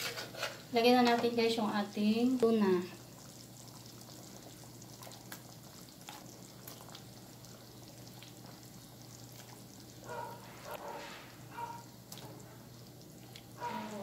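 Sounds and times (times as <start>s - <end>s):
coconut milk simmering: 0.0s - 14.0s.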